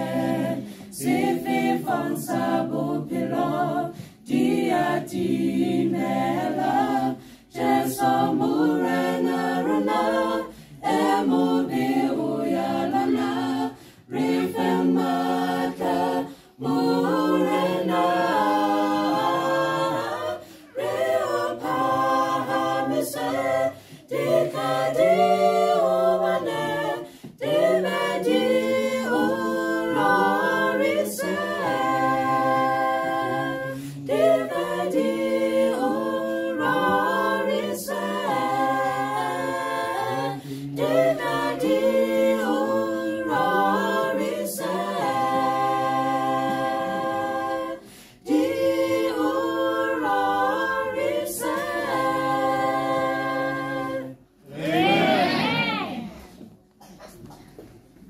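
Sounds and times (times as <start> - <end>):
choir singing a hymn a cappella: 0.0 - 56.6.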